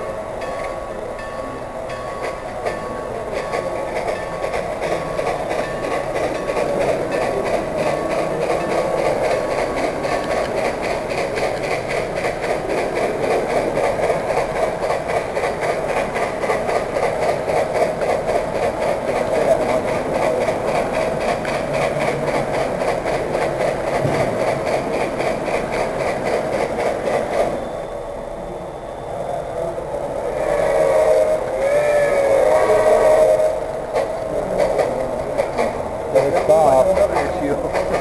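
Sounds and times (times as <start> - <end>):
model train running: 0.0 - 38.0.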